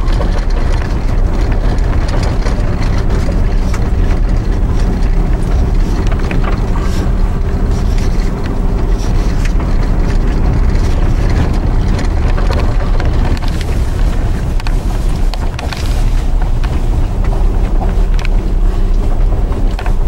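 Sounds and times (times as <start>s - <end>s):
vehicle rumbling over snowy road: 0.0s - 20.0s.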